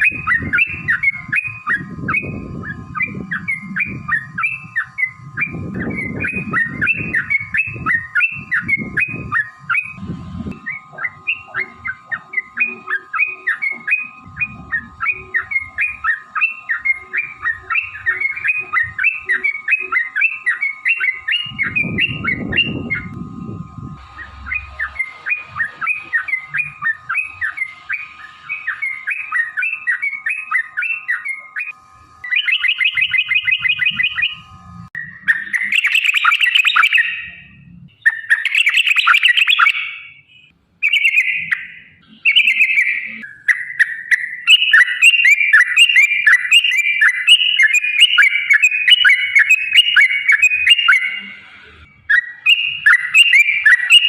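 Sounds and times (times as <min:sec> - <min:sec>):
bird singing chattering notes: 0:00.0 - 0:54.0
steady hum: 0:00.0 - 0:54.0.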